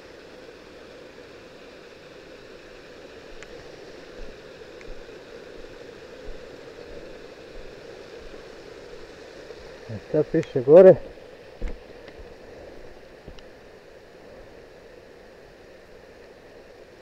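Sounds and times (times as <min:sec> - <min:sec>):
small waterfall splashing: 0:00.0 - 0:17.0.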